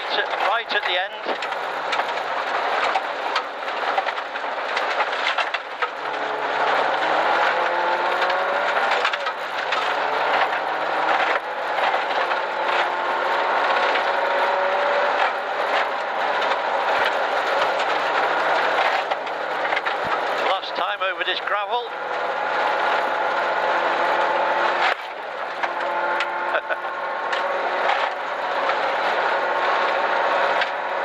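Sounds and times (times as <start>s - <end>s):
car engine revving through gears: 0.0s - 31.0s
tyres on gravel: 0.0s - 31.0s.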